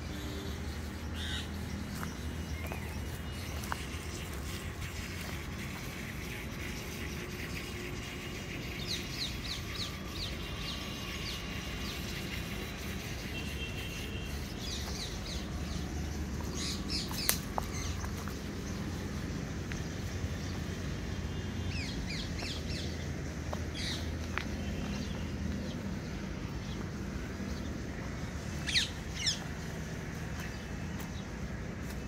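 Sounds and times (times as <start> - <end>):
wild birds chirping: 0.0 - 31.5.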